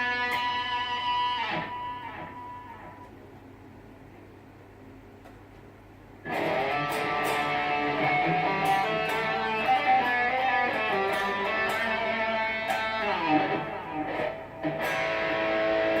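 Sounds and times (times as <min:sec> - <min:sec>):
high-gain electric guitar lead notes: 0:00.0 - 0:03.1, 0:06.2 - 0:16.0
faint amp hum: 0:00.0 - 0:16.0.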